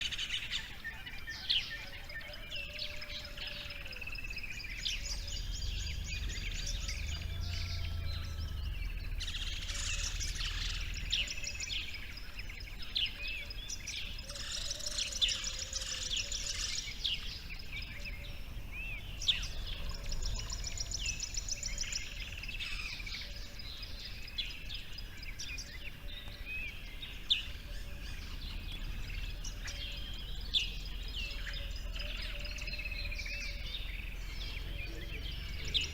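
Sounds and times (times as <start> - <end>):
birds chirping and trilling: 0.0 - 35.9
faint low rumble: 3.1 - 35.9.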